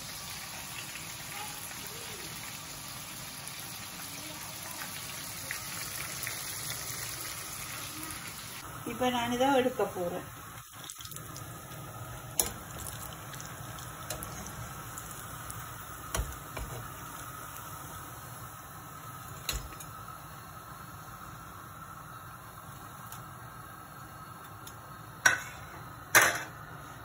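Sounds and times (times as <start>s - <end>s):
oil sizzling in a wok: 0.0s - 27.0s.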